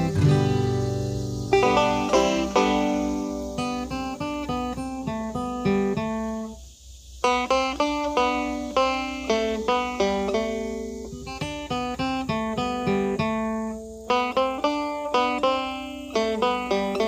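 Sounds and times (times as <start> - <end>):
plucked guitar melody: 0.0 - 6.6, 7.2 - 17.0.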